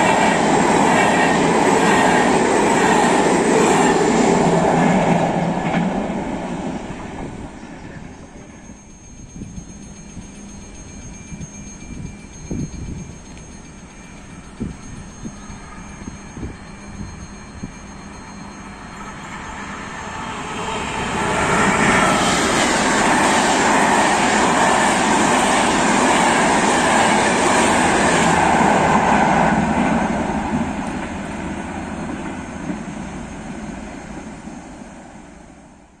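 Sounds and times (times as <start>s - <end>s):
train wheels rushing on rails: 0.0s - 36.0s.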